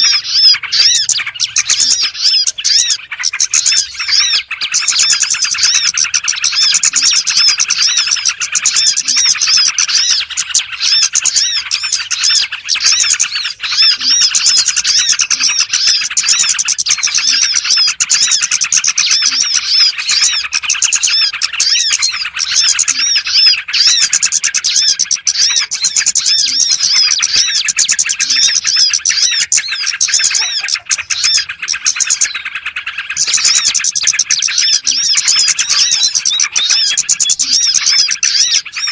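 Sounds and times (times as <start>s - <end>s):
bird lure call chirping: 0.0s - 38.9s.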